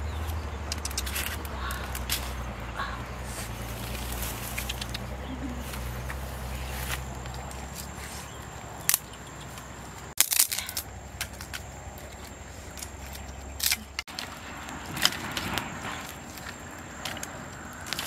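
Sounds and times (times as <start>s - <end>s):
dry sticks clattering and snapping: 0.2s - 18.0s.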